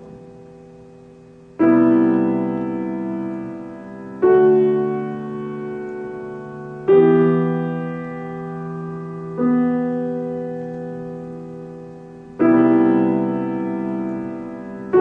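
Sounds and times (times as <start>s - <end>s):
slow solo piano chords: 0.0s - 15.0s.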